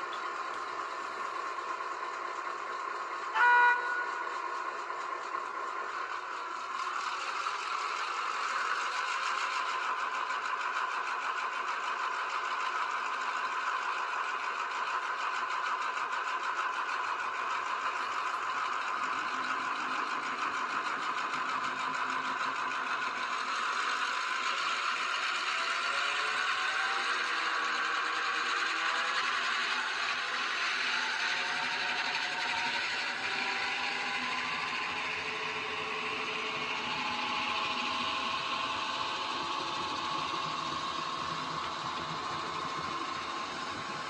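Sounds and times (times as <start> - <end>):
model train running hum: 0.0 - 44.0.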